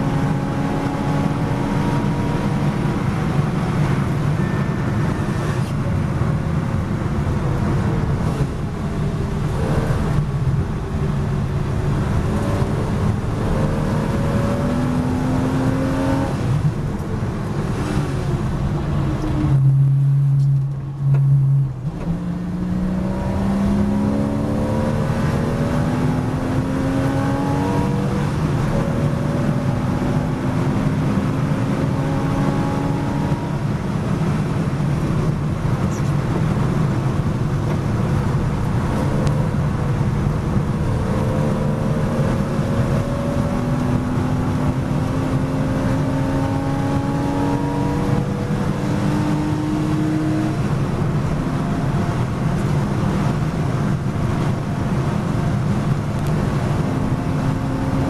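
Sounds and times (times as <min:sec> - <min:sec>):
car engine accelerating: 0:00.0 - 0:58.0
road and wind noise: 0:00.0 - 0:58.0.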